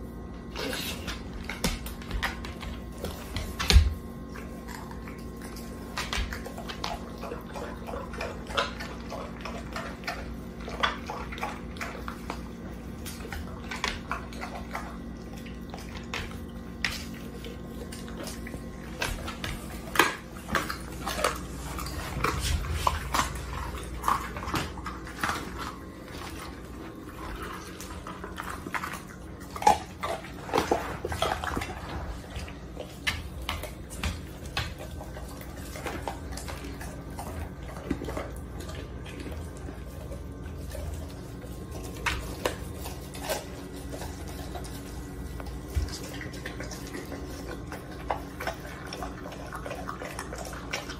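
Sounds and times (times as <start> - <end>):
steady low hum: 0.0 - 50.9
dog crunching bones: 0.2 - 50.9.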